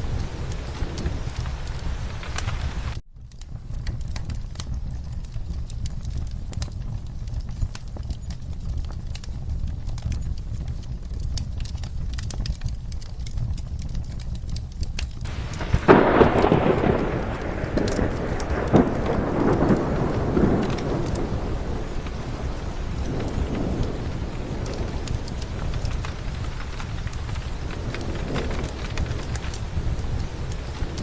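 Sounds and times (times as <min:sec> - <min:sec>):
fire crackling: 0:00.0 - 0:31.0
steady rain: 0:00.0 - 0:31.0
thunder rumbling: 0:00.0 - 0:31.0.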